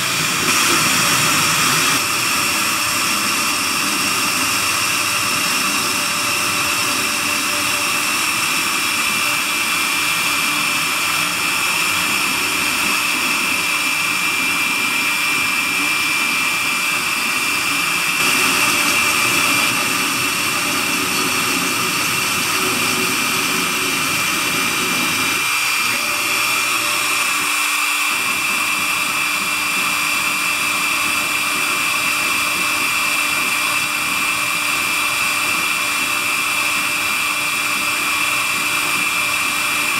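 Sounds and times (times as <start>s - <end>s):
bit carving wood: 0.0s - 39.9s
cnc router spindle whine: 0.0s - 39.9s.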